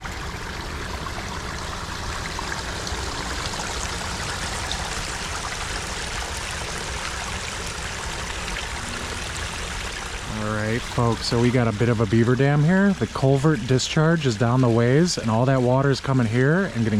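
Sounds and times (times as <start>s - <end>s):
water trickling through dam: 0.0s - 16.9s.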